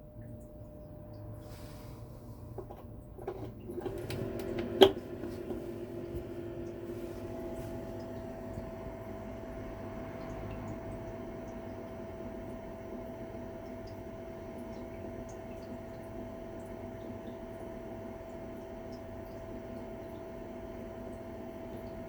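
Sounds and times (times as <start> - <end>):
ventilation fan running: 0.0 - 22.0.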